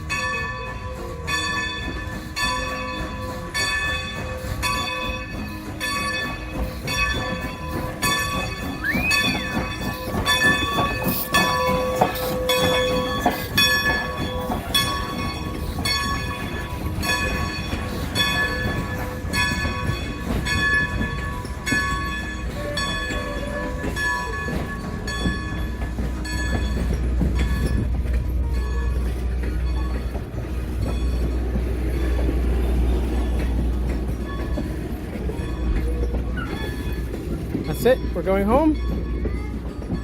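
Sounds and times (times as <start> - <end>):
locomotive bell ringing: 0.0 - 40.0
train rumbling on rails: 0.0 - 40.0.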